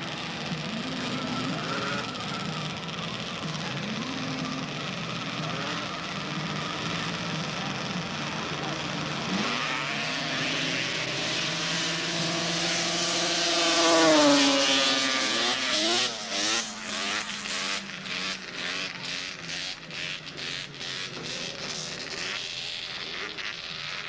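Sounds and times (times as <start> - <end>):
snowmobile engine at full throttle: 0.0 - 24.0.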